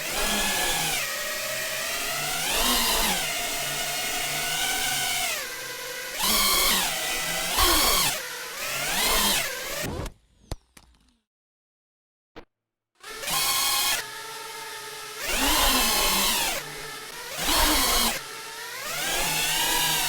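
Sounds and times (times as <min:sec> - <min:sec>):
drone motors whining: 0:00.0 - 0:10.2, 0:13.0 - 0:20.0.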